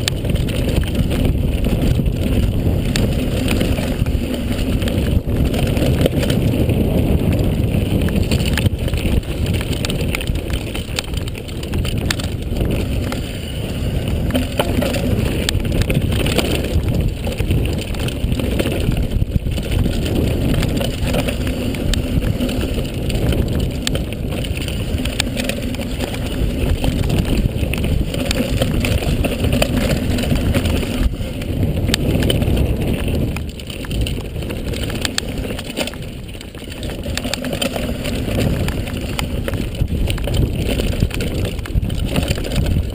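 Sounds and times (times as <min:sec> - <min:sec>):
bike knocking and rattling: 0:00.0 - 0:42.9
bike tyre rumble: 0:00.0 - 0:42.9
wind noise on microphone: 0:00.0 - 0:42.9.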